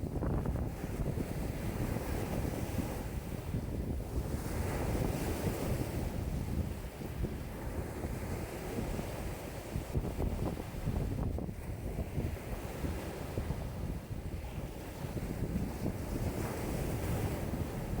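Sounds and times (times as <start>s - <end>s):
lake waves slapping ashore: 0.0s - 18.0s
wind buffeting microphone: 0.0s - 18.0s.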